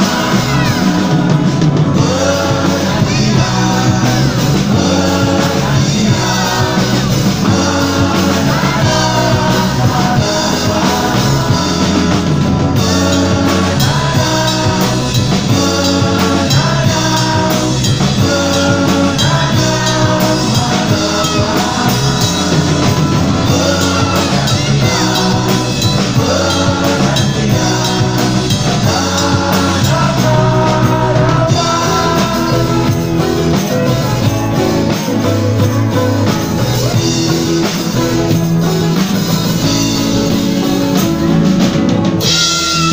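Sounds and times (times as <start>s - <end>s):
person singing: 0.0s - 41.0s, 42.2s - 42.9s
acoustic and electric guitars: 0.0s - 42.9s.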